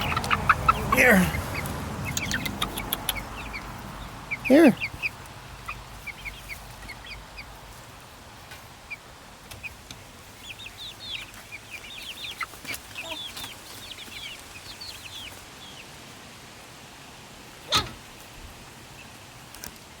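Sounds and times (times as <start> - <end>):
chicks peeping and chirping: 0.0 - 20.0.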